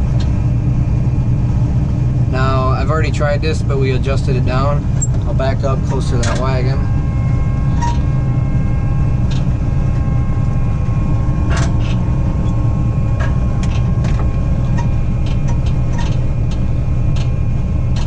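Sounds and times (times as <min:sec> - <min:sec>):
diesel engine low rumble: 0:00.0 - 0:18.0
faint steady whines: 0:00.0 - 0:18.0.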